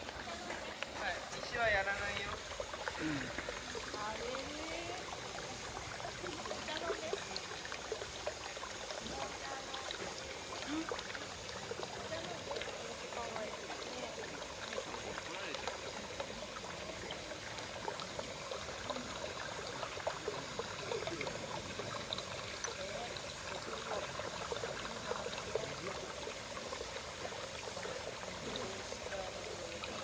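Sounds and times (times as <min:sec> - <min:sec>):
water trickling into pond: 0:00.0 - 0:30.0.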